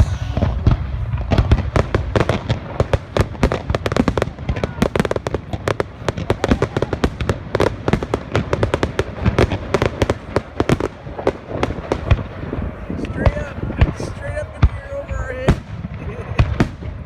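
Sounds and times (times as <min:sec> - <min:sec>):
deep fireworks booms: 0:00.0 - 0:17.0
fireworks bangs and crackles: 0:00.0 - 0:17.0.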